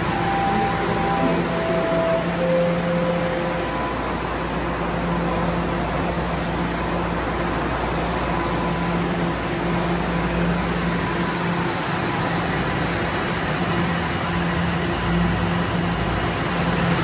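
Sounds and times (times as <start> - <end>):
subway train humming: 0.0 - 17.0.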